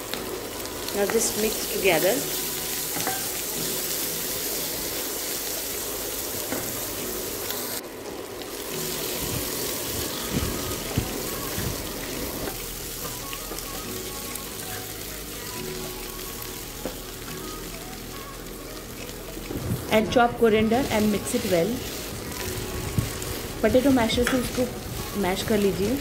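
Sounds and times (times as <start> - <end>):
potatoes sizzling in oil: 0.0 - 26.0
soft background music: 0.0 - 26.0.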